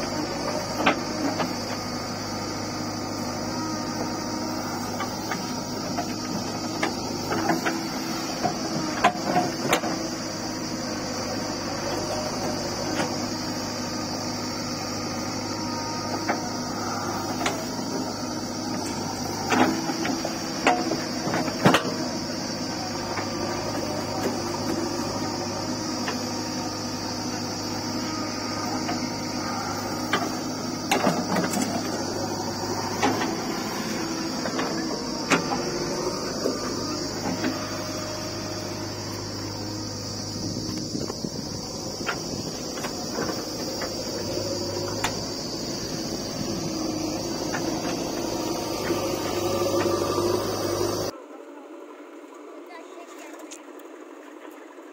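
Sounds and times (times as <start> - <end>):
diesel engine under load: 0.0 - 52.7.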